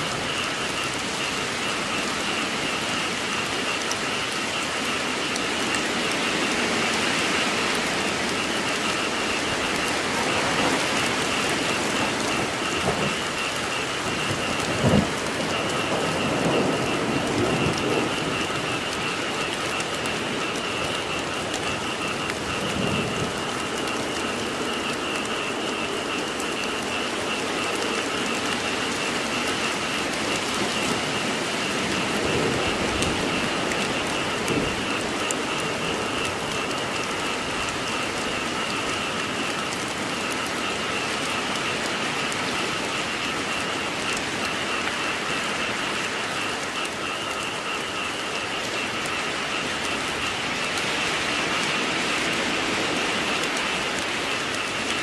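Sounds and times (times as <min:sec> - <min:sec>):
frog chorus: 0:00.0 - 0:55.0
rain falling: 0:00.0 - 0:55.0.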